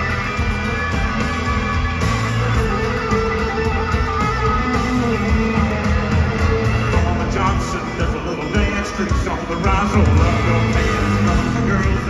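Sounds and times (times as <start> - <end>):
electric guitar: 0.0 - 12.0
live country-rock band: 0.0 - 12.0.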